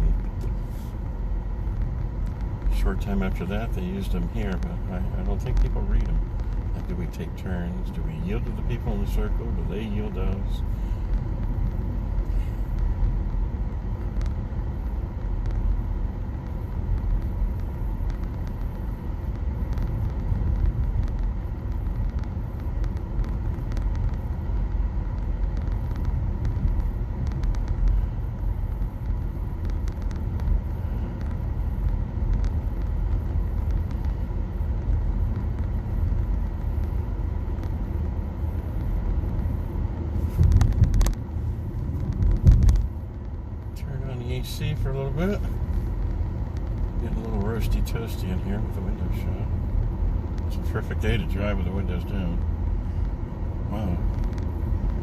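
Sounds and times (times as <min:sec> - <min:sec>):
road and tyre rumble in car: 0:00.0 - 0:55.0.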